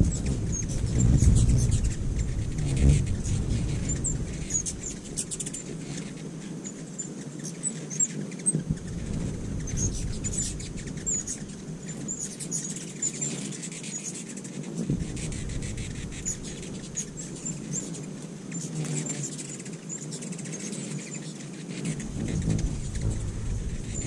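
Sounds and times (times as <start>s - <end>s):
hummingbird wings whirring: 0.0s - 24.0s
hummingbirds chipping and twittering: 0.0s - 24.0s.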